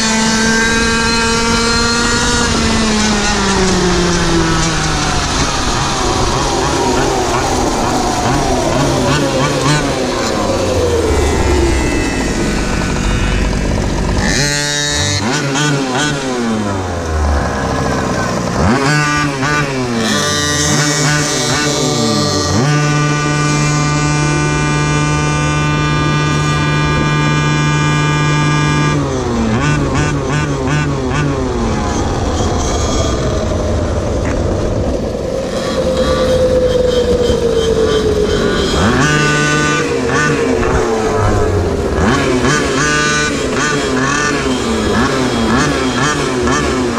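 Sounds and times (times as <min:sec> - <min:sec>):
steady rumble: 0:00.0 - 0:20.1, 0:29.2 - 0:46.9
small engine revving: 0:00.0 - 0:46.9.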